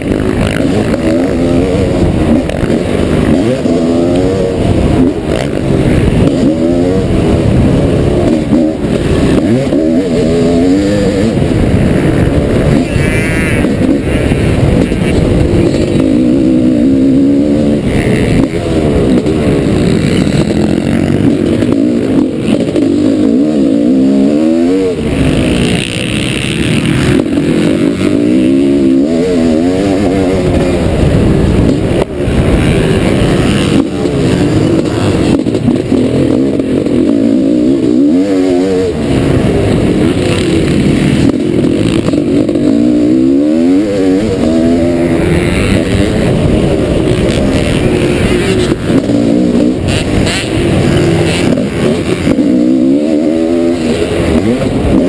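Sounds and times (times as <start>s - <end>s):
two-stroke motorcycle engine revving: 0.0s - 55.0s.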